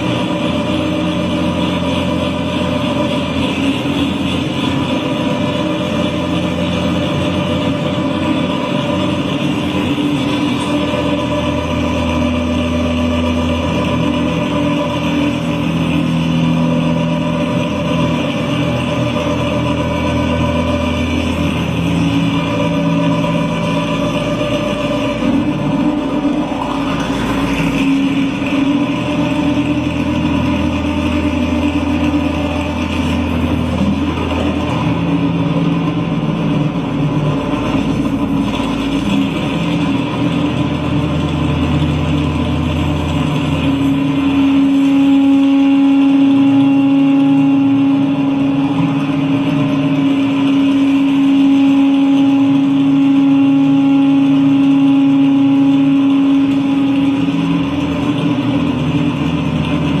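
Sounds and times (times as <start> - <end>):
deep low electronic drone: 0.0 - 60.0
loud steady droning tone: 0.0 - 60.0
stuttering lower drone: 0.0 - 60.0.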